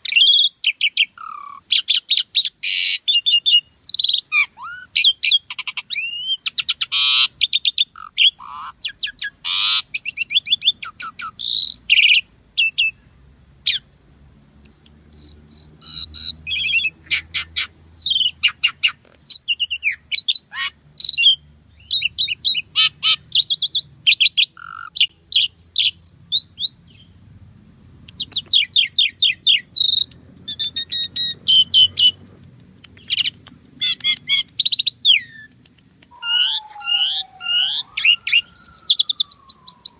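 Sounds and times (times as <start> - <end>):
starling singing: 0.0 - 13.0, 14.7 - 27.2, 28.1 - 39.9.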